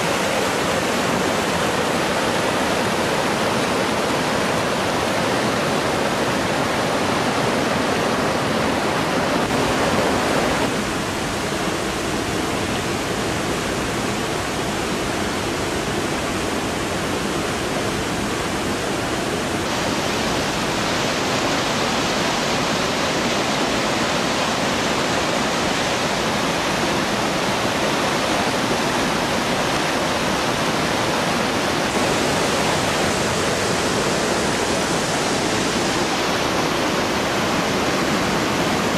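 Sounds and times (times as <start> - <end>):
rushing mountain torrent: 0.0 - 38.9.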